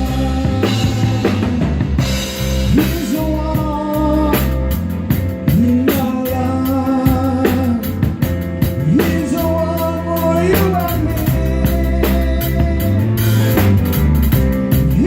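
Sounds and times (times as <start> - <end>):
person singing: 0.0 - 13.6, 14.7 - 15.0
drum kit with cymbals: 0.0 - 15.0
rock band playing: 0.0 - 15.0.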